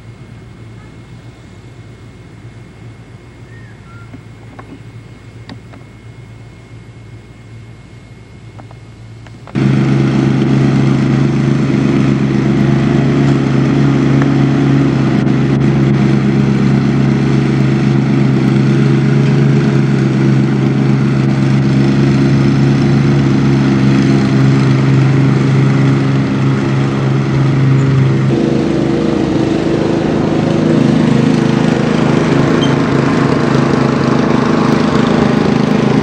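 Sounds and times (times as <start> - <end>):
small engine running: 0.0 - 7.8, 8.4 - 36.0.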